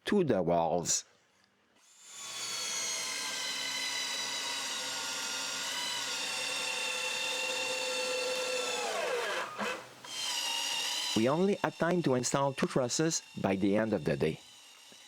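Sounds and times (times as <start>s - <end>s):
power drill motor whine: 1.8s - 15.0s.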